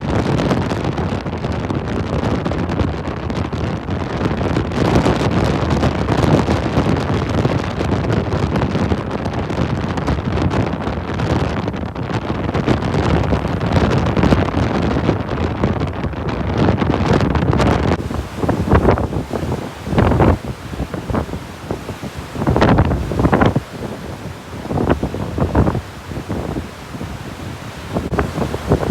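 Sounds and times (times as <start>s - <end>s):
strong wind on microphone: 0.0s - 28.9s.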